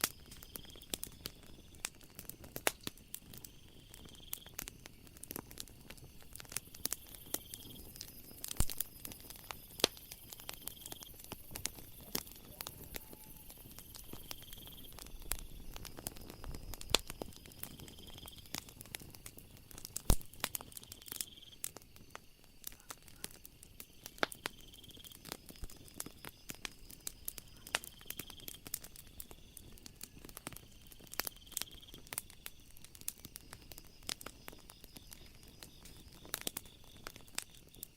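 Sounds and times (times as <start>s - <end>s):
insect trill: 0.0s - 37.9s
insects buzzing: 0.0s - 37.9s
wood fire crackling and popping: 0.0s - 37.9s.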